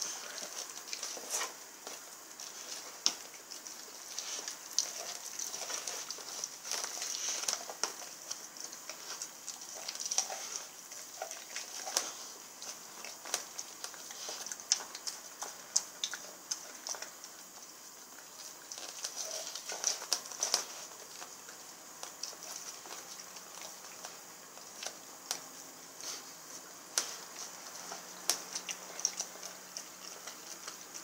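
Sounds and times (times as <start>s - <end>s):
dog gnawing meat and bone: 0.0s - 31.0s.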